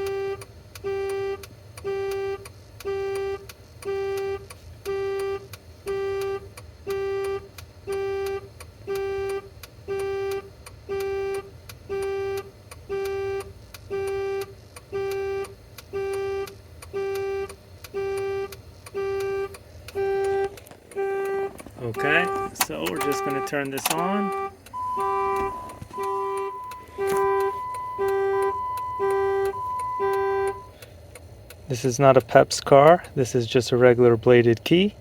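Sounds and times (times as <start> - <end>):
car warning chime beeping: 0.0 - 30.9.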